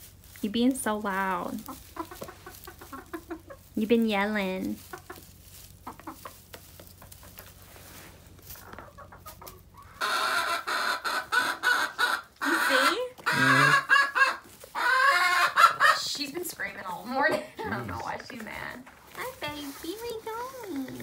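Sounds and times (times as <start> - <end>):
hens clucking: 0.9 - 21.0.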